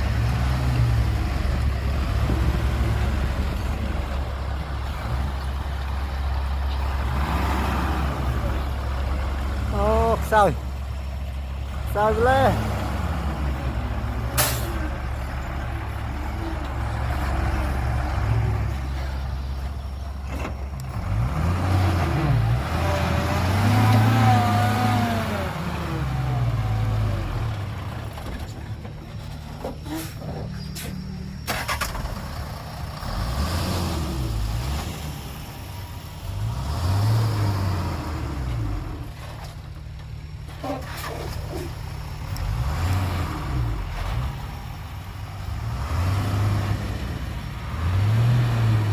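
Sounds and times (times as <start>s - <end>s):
diesel engine revving: 0.0s - 48.9s.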